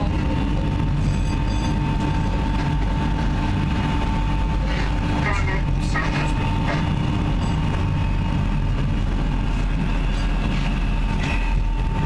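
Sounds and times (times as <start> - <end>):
boat engines rumbling: 0.0 - 12.0
faint engine whine: 0.0 - 12.0.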